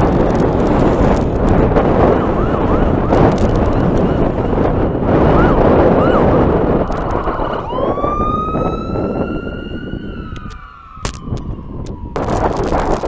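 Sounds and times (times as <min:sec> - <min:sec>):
wind buffeting microphone: 0:00.0 - 0:13.0
fire engine siren wailing: 0:00.5 - 0:13.0.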